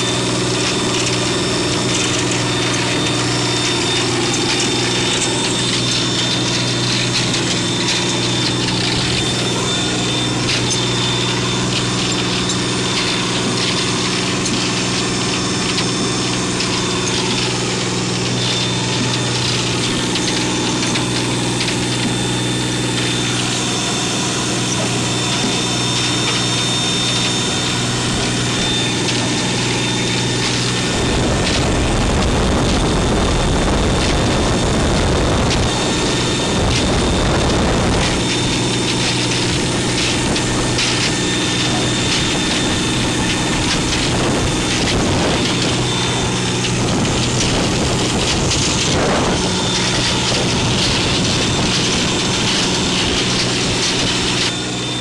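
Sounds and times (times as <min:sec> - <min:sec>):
boat engine humming: 0:00.0 - 0:55.0
deep rumbling: 0:00.0 - 0:55.0
water rushing along hull: 0:00.0 - 0:55.0.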